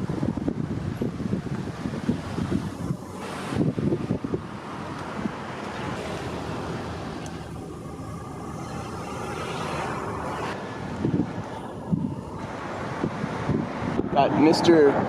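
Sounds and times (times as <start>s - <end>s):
road traffic rushing: 0.0s - 15.0s
wind on microphone: 0.0s - 15.0s.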